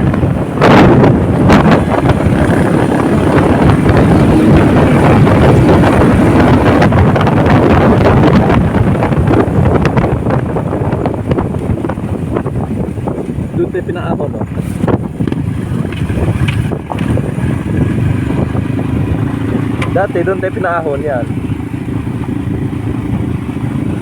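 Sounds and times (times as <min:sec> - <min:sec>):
motorcycle engine: 0:00.0 - 0:24.0
wind buffeting microphone: 0:00.0 - 0:24.0.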